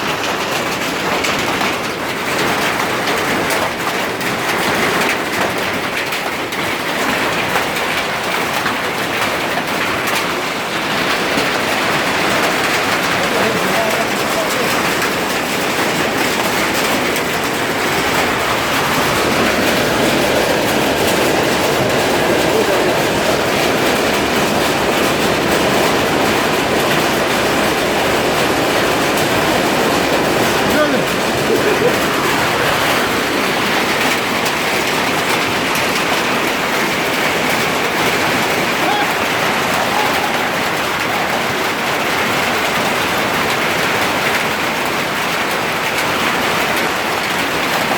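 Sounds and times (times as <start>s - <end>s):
hailstones clattering: 0.0s - 47.9s.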